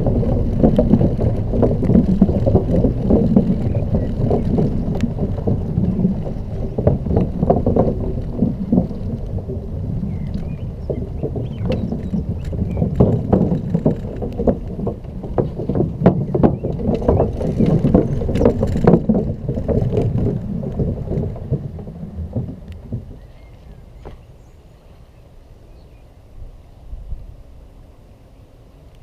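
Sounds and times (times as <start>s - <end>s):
rattling knocks: 0.0s - 23.4s
wind on microphone: 0.0s - 24.4s
scooter rumbling on rough path: 0.0s - 26.0s.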